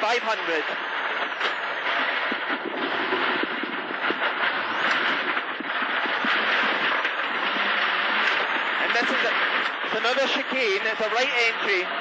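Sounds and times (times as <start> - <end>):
car engine at speed: 0.0 - 12.0
road noise: 0.0 - 12.0.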